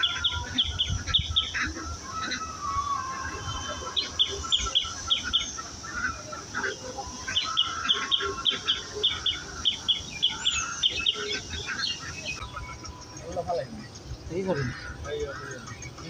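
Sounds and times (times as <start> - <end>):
birds chirping: 0.0 - 16.0
steady high hiss: 0.0 - 16.0.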